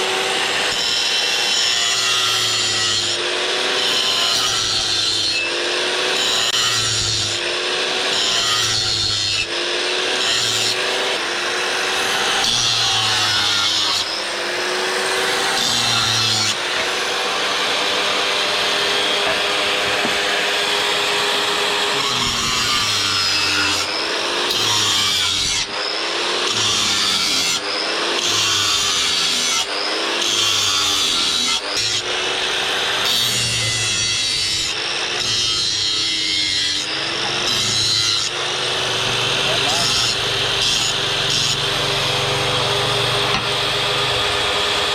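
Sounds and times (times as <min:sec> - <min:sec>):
electric power tool running: 0:00.0 - 0:44.9.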